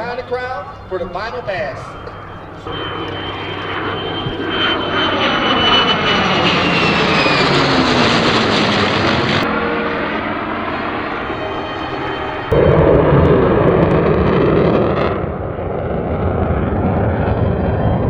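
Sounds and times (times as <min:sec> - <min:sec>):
jet engine passing: 0:00.0 - 0:18.0.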